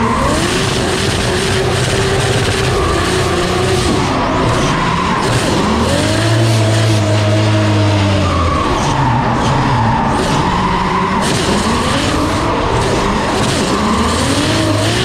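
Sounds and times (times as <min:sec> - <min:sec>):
car engine at high revs: 0:00.0 - 0:15.0
tyres skidding: 0:00.0 - 0:15.0.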